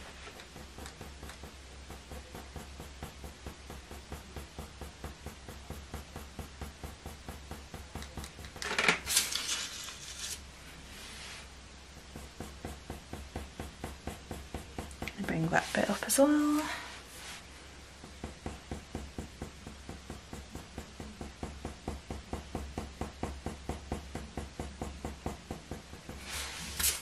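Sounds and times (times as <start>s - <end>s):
pencil scratching on paper: 0.0s - 8.6s, 12.0s - 17.4s, 18.0s - 27.0s.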